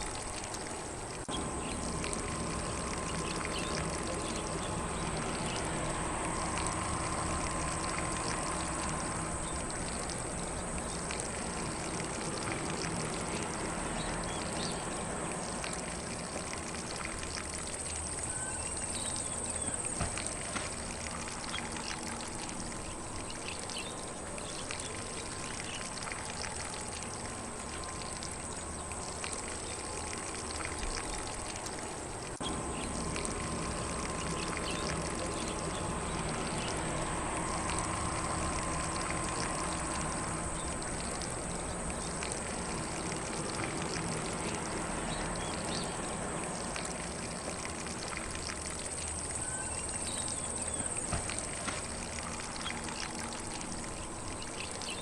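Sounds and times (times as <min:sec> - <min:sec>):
lawn sprinkler spraying water: 0:00.0 - 0:55.0.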